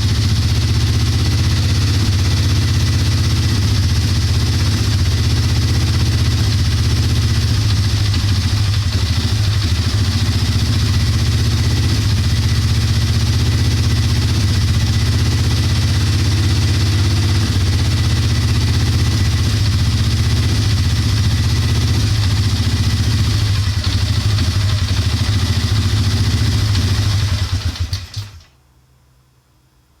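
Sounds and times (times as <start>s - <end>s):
engine rough idle: 0.0s - 28.5s.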